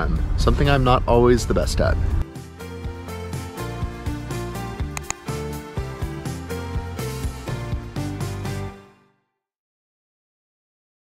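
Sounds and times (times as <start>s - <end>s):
background music: 0.0s - 9.2s.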